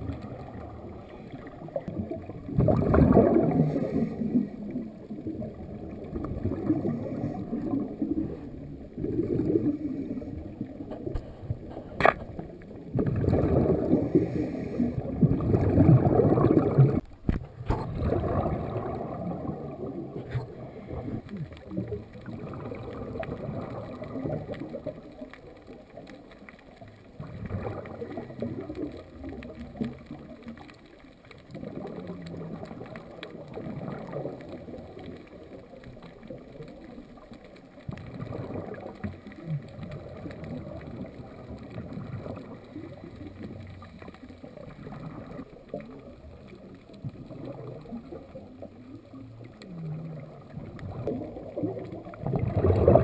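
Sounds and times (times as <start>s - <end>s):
underwater bubbles gurgling: 0.0s - 53.0s.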